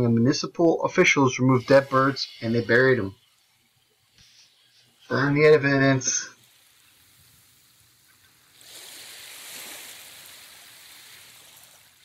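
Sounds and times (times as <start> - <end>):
surf washing on beach: 1.4 - 3.6, 4.2 - 12.0.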